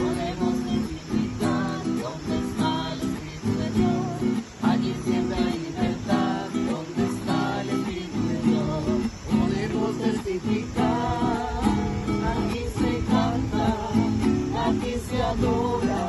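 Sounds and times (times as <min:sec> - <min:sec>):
acoustic guitar strumming: 0:00.0 - 0:16.0
person singing: 0:00.0 - 0:16.0.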